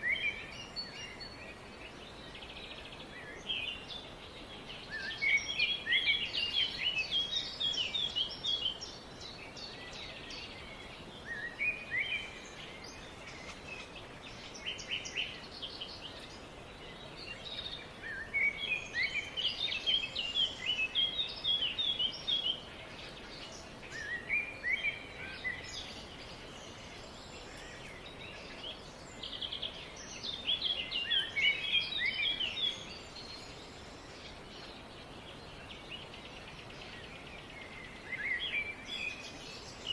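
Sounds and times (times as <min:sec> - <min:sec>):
songbirds chirping: 0:00.0 - 0:39.9
steady background hiss: 0:00.0 - 0:39.9.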